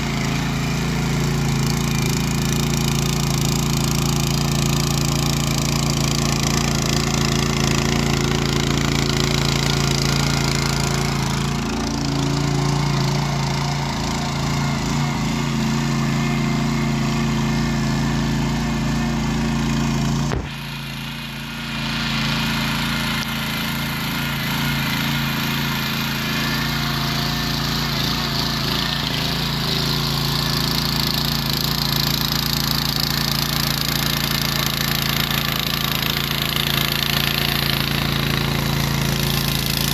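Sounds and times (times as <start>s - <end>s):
motor hoe engine running: 0.0s - 39.9s
tines churning soil: 0.0s - 39.9s.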